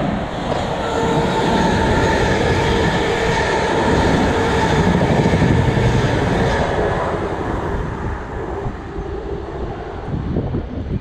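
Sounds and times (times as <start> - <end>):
train wheels on rails: 0.0 - 9.3.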